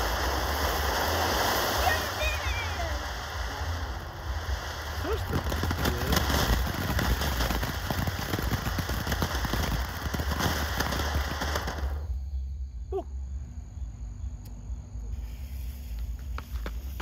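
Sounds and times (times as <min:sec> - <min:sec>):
firework fountain hissing crackle: 0:00.0 - 0:12.6, 0:15.0 - 0:17.0.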